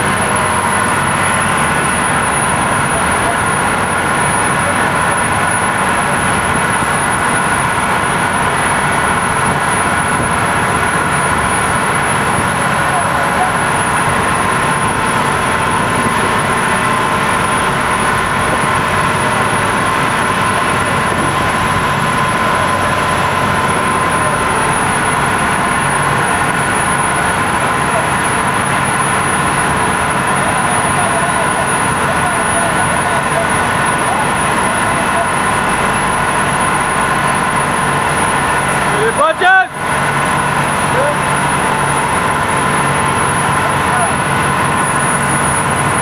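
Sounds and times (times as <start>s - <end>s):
boat engine droning: 0.0s - 46.0s.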